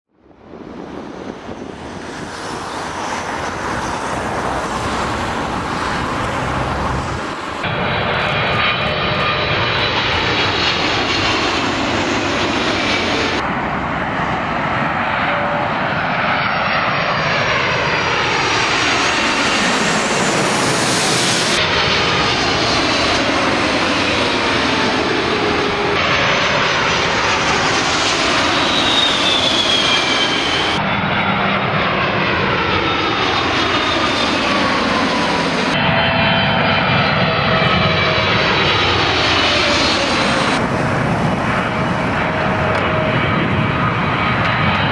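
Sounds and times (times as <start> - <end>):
jet airliners landing overhead: 0.2 - 44.9.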